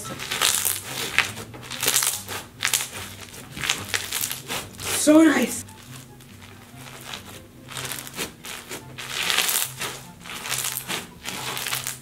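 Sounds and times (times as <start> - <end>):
slime beads crackling: 0.0 - 12.0.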